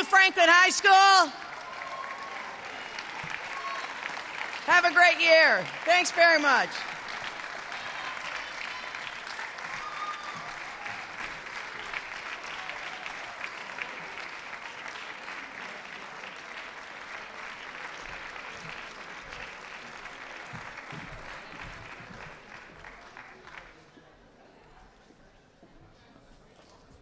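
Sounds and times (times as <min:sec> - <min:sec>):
audience applauding: 0:00.9 - 0:23.8.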